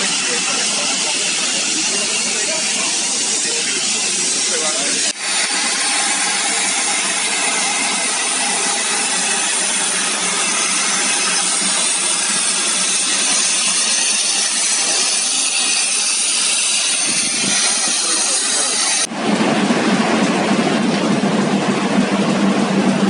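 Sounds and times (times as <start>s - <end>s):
steam locomotive hissing: 0.0s - 23.0s.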